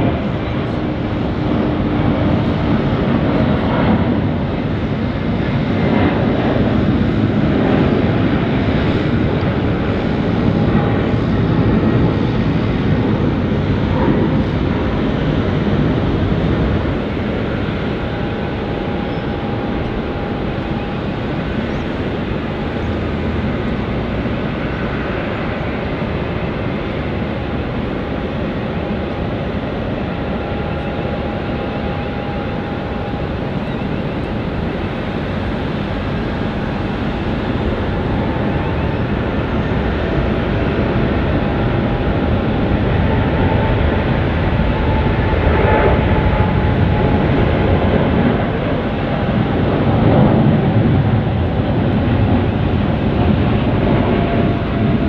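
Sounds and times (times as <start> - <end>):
airliner engines roaring: 0.0 - 55.0.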